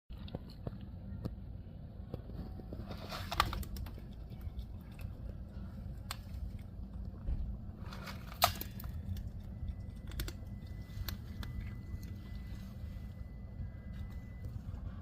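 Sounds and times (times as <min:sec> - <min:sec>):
low hum: 0:00.1 - 0:15.0
cat crunching dry kibble: 0:02.4 - 0:14.6.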